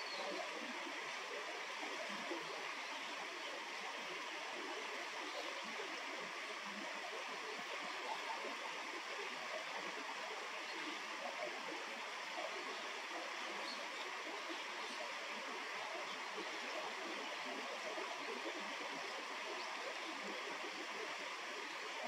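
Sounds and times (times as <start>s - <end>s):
water babbling: 0.0s - 22.0s.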